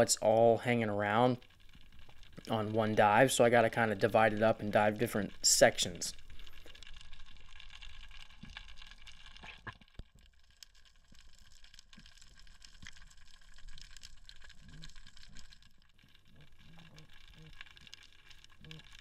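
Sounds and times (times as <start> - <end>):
soft clicks and ticks: 0.0 - 19.0
low underwater rumble: 0.8 - 19.0.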